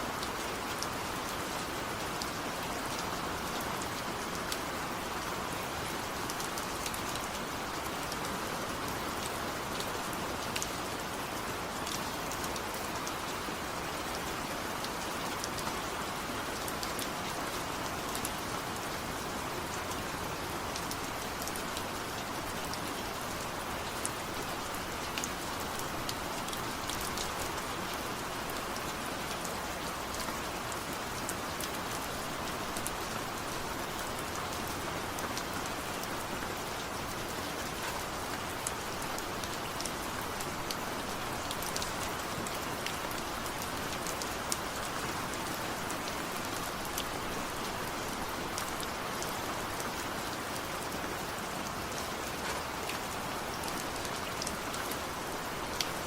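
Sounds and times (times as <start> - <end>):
steady rain falling: 0.0 - 56.0
raindrops ticking on surface: 0.1 - 56.0.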